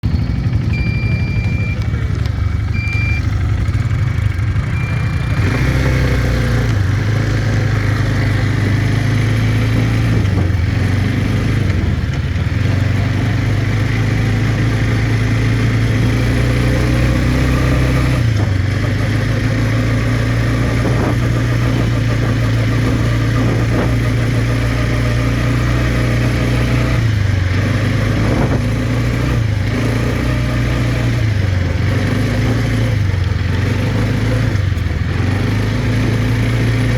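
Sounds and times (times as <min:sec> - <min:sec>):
quad bike engine drone: 0:00.0 - 0:36.9.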